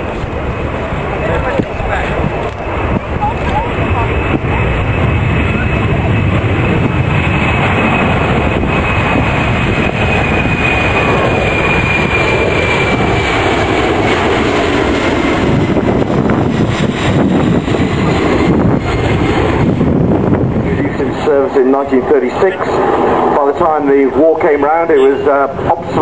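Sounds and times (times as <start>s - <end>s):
aircraft engine whine: 0.0s - 26.0s.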